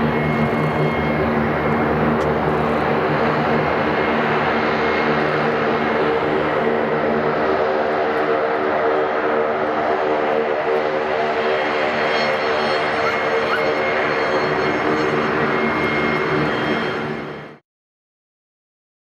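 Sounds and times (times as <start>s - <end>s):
turboprop engines droning: 0.0s - 17.6s.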